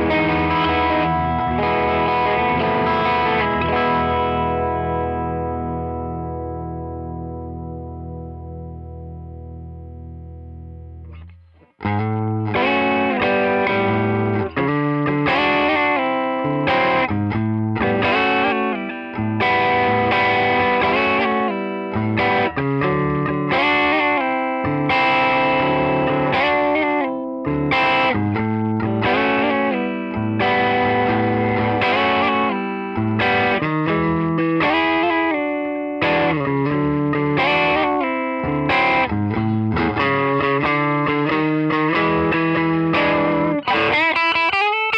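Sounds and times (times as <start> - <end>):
distorted electric guitar playing: 0.0 - 44.9.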